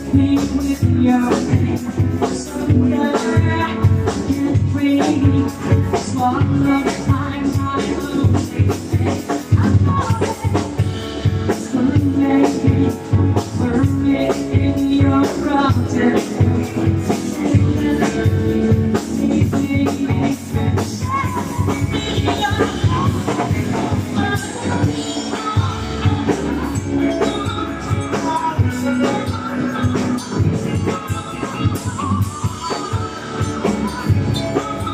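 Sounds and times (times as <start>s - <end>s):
person singing: 0.0s - 34.9s
rock and roll band playing: 0.0s - 34.9s
steady drum beat: 0.0s - 34.9s.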